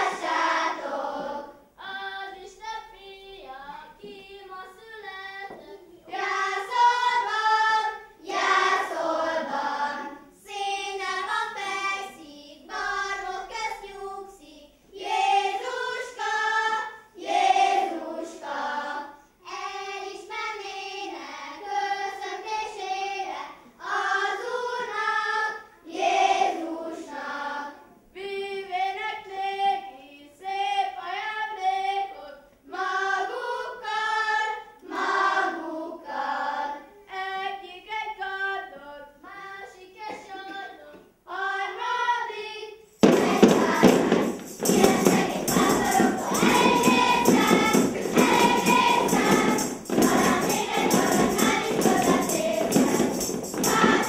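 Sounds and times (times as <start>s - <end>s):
children's choir singing unaccompanied: 0.0s - 54.0s.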